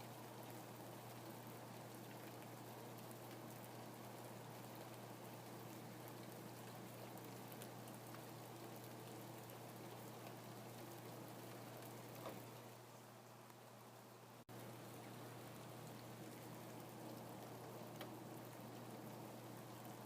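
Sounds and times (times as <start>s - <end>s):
faint rainfall: 0.0s - 20.0s
low steady hum: 0.0s - 20.0s.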